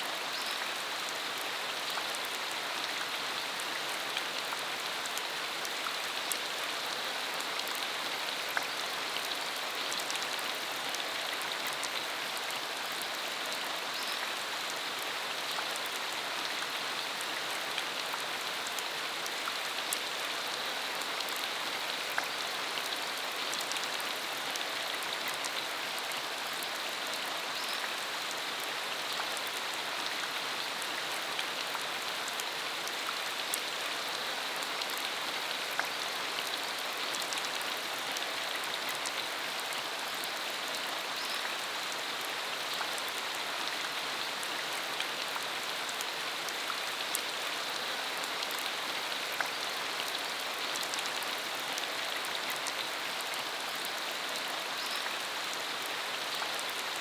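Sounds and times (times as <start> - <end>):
steady rain on dirt road: 0.0 - 57.0.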